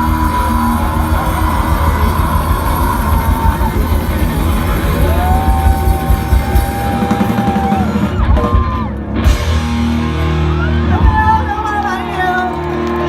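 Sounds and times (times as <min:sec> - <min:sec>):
bass: 0:00.0 - 0:13.0
drums: 0:00.0 - 0:13.0.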